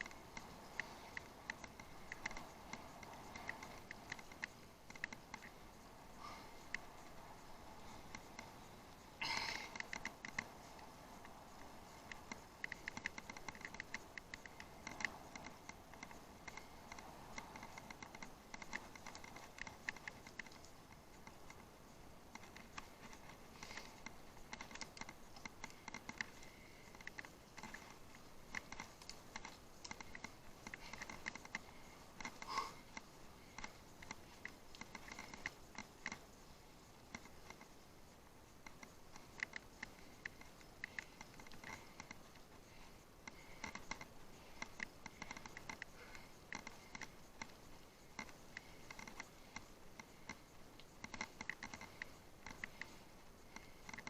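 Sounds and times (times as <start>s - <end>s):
bicycle clicking and rattling: 0.0s - 54.0s.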